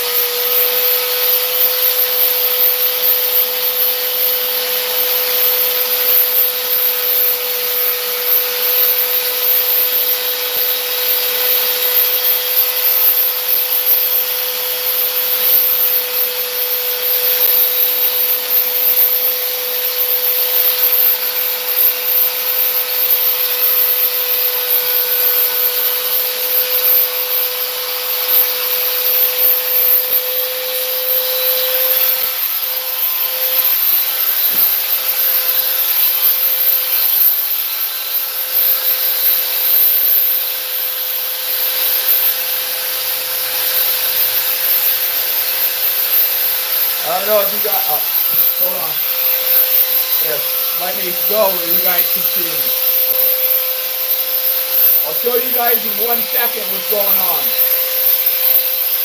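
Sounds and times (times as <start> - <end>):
electric sander running: 0.0 - 59.0.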